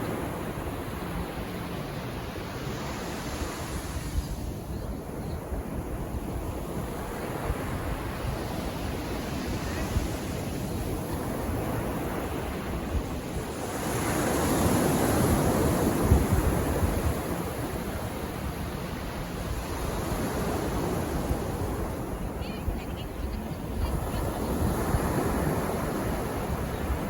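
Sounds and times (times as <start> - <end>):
sea waves washing onto beach: 0.0 - 27.0.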